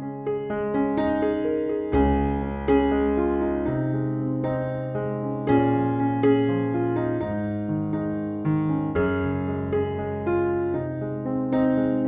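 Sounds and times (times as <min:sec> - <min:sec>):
electric piano music: 0:00.0 - 0:12.0.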